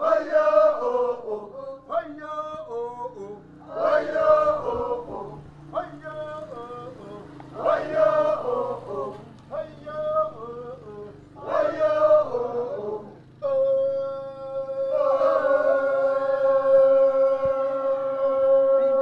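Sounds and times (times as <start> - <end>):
chanted singing: 0.0 - 19.0.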